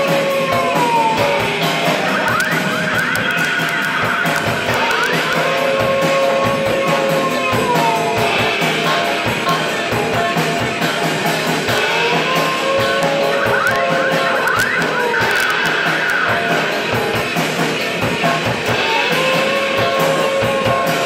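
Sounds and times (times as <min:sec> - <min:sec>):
drum kit hits: 0:00.0 - 0:21.0
electric guitar: 0:00.0 - 0:21.0
sliding pitched tones: 0:00.0 - 0:21.0.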